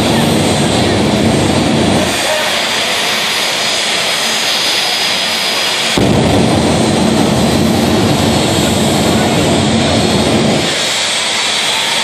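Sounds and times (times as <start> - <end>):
afterburner deep rumble: 0.0 - 11.6
jet turbine engine hissing: 0.0 - 12.0.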